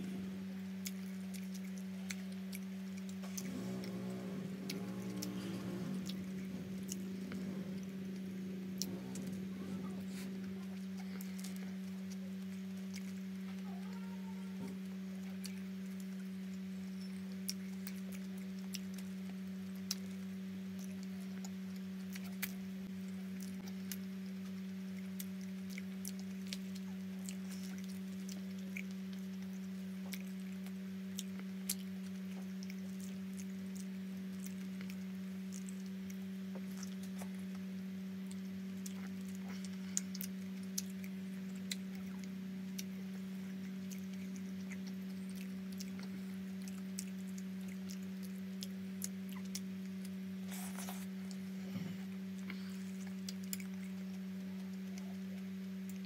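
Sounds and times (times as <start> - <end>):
steady low hum: 0.0 - 56.0
wet chewing clicks and smacks: 0.7 - 7.6, 15.2 - 22.6, 23.4 - 37.6, 38.3 - 51.4, 52.4 - 56.0.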